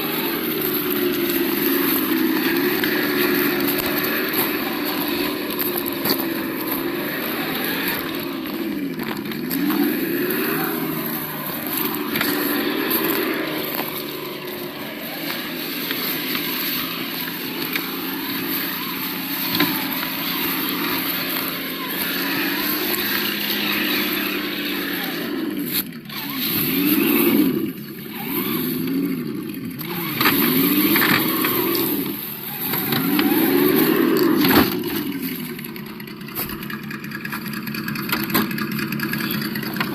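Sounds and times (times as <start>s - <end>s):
simulated engine revving: 0.0s - 39.9s.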